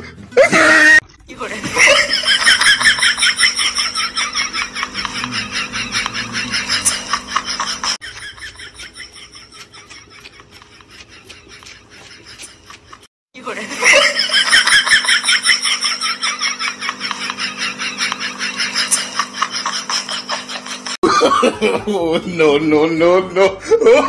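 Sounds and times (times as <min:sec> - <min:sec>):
people laughing: 0:00.4 - 0:24.0.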